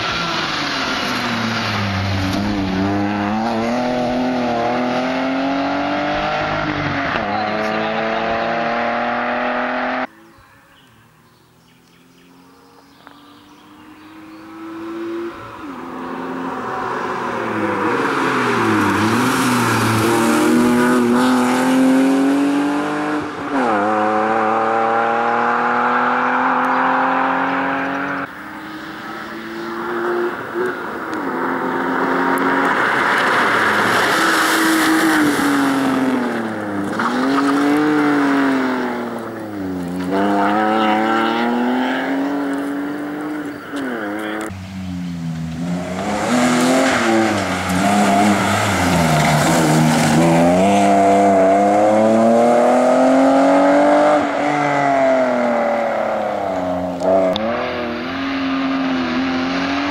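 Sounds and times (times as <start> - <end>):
car engine revving hard: 0.0 - 10.1, 14.0 - 44.5, 45.5 - 59.9.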